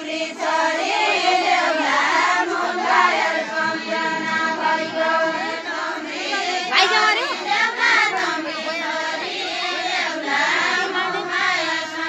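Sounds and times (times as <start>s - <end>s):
women singing folk song together: 0.0s - 12.0s.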